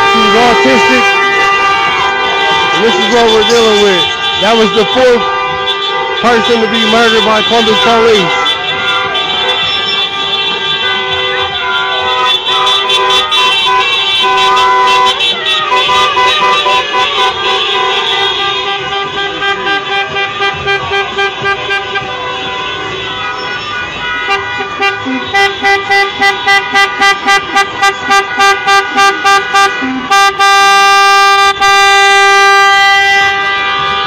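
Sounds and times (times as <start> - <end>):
car horn beeping rapidly: 0.0 - 34.0
many car horns honking: 0.0 - 34.0.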